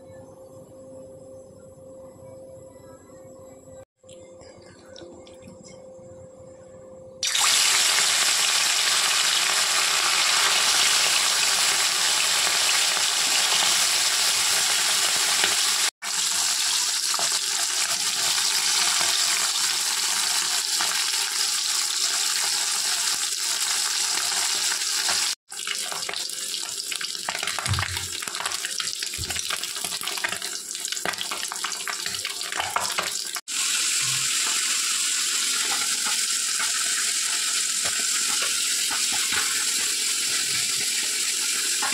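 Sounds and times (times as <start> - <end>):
fish sizzling in hot oil: 7.2 - 41.9.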